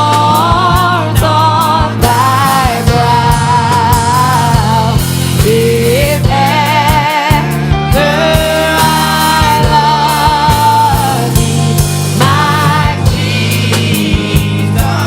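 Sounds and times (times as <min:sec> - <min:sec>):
drum hits: 0:00.0 - 0:15.0
singers with vibrato: 0:00.0 - 0:15.0
steady bass: 0:00.0 - 0:15.0.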